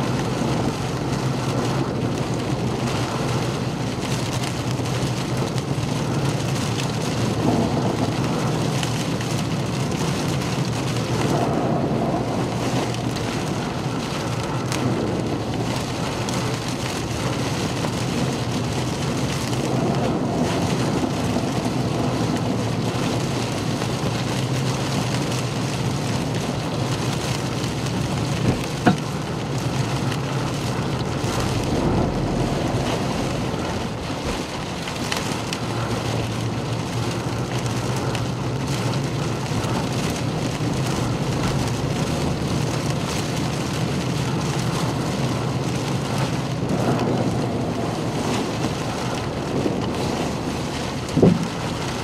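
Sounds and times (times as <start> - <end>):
rain beating on vehicle: 0.0 - 52.0
road and engine hum: 0.0 - 52.0.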